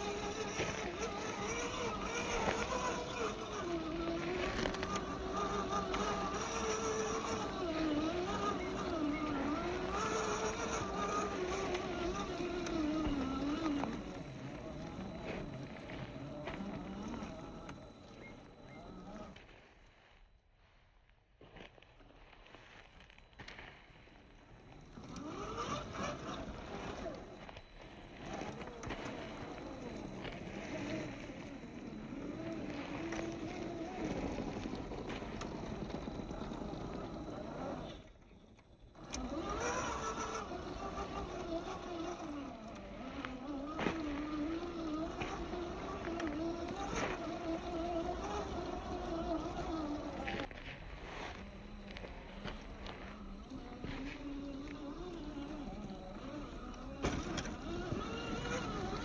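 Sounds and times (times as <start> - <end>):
electric motor and gearbox whining: 0.0 - 19.6, 21.7 - 59.0.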